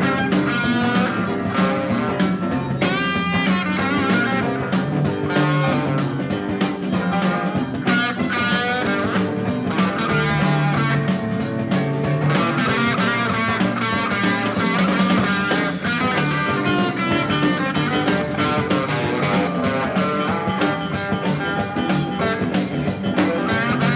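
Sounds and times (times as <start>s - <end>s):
blues-rock band playing: 0.0s - 23.9s
electric guitar lines: 0.0s - 23.9s.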